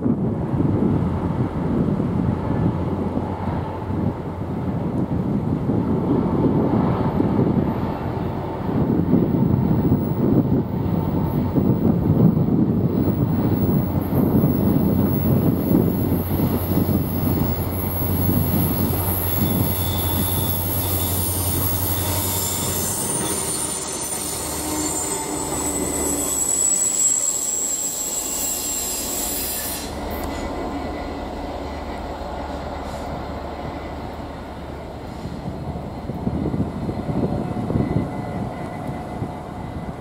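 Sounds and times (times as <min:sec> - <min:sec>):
diesel locomotive drone: 0:00.0 - 0:40.0
rail rumble: 0:00.0 - 0:40.0
train wheels squealing on rails: 0:07.5 - 0:40.0.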